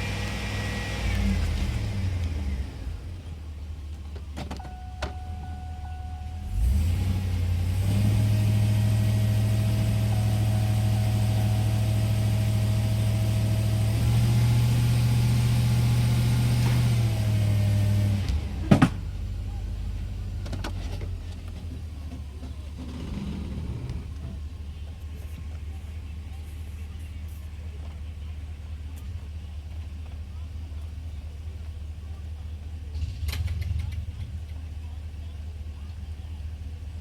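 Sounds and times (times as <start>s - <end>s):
pickup engine idling and revving: 0.0s - 37.0s.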